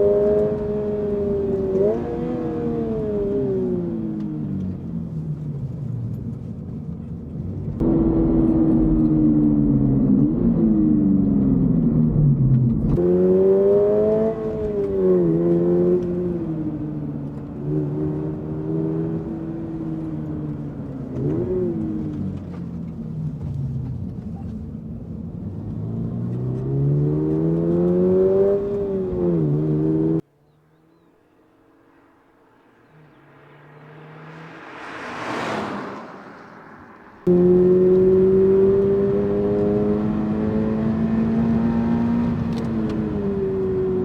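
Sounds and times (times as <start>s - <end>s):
car engine revving: 0.0s - 30.2s, 30.8s - 44.0s.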